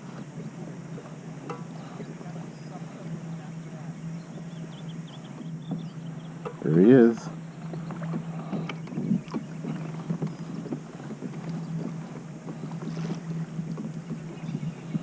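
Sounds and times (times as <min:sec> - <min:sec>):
steady low hum: 0:00.0 - 0:15.0
water lapping against kayak hull: 0:00.0 - 0:15.0.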